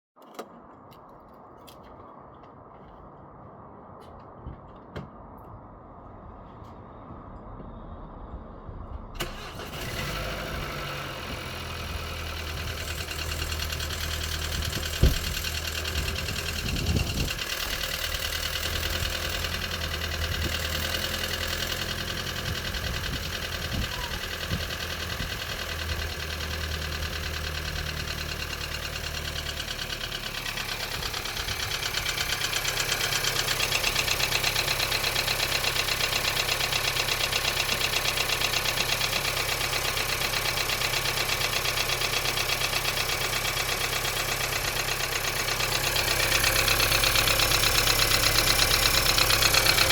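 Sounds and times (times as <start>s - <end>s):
engine idling: 9.1s - 49.9s
engine cranking and starting: 9.2s - 49.9s.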